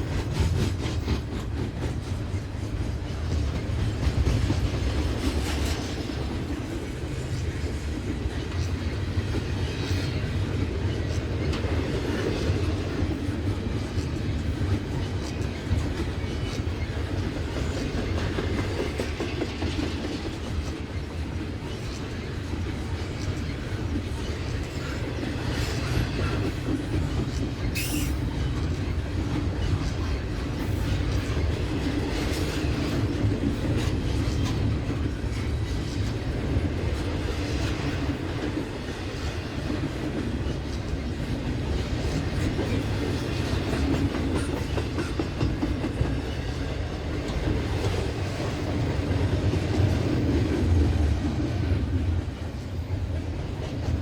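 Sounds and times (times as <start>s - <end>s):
clacks over rail joints: 0.0s - 51.9s
train wheels rumbling on rails: 0.0s - 54.0s.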